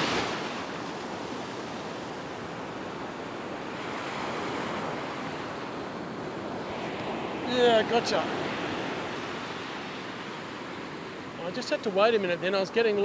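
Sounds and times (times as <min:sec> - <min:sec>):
ocean waves on beach: 0:00.0 - 0:13.0.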